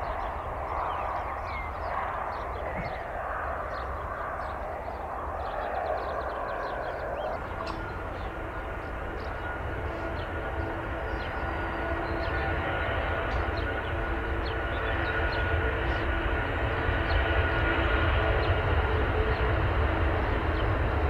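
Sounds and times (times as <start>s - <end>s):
jet engine roar: 0.0s - 21.0s
turbofan whine: 0.0s - 21.0s.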